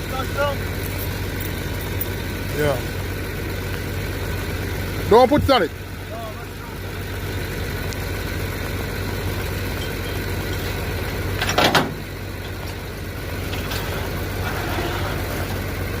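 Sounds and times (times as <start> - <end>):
tow truck engine idling: 0.0 - 16.0.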